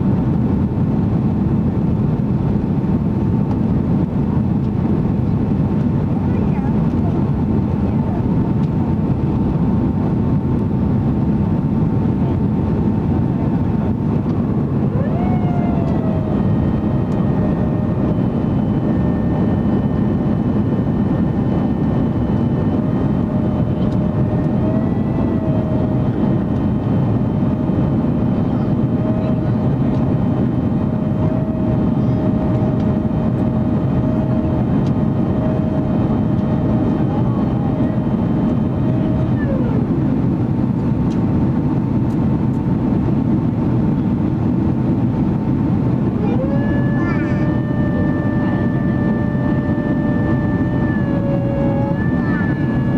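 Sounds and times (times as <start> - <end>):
jet engine cabin roar: 0.0 - 52.9.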